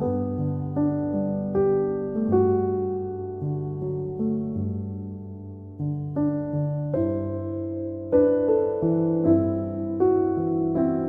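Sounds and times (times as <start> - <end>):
slow soft piano music: 0.0 - 11.0.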